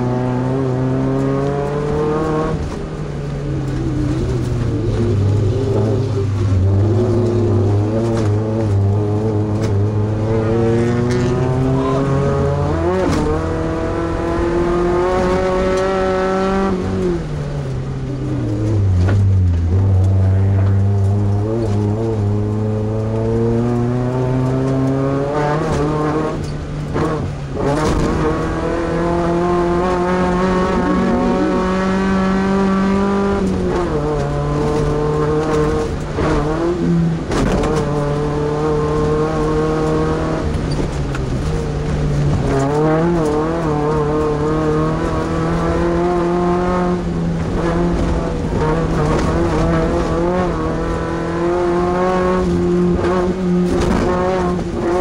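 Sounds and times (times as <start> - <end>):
truck engine revving hard: 4.5 - 17.2, 19.8 - 55.0.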